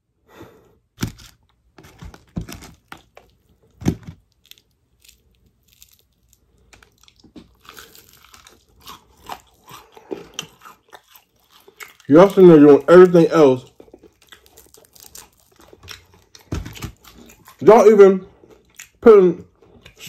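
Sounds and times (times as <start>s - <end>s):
chewing crispy chicken: 1.9s - 20.0s.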